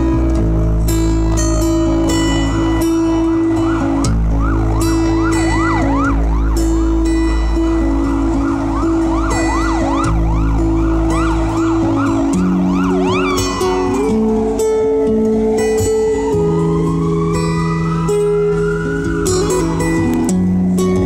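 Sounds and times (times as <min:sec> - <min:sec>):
acoustic guitar music: 0:00.0 - 0:21.0
siren-like whooping: 0:02.1 - 0:20.4.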